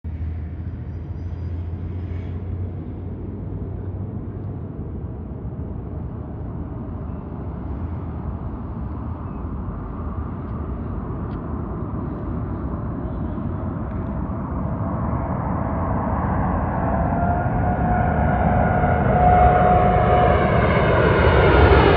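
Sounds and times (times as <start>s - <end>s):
jet engine rumble: 0.1s - 21.9s
jet engine whine: 0.1s - 21.9s.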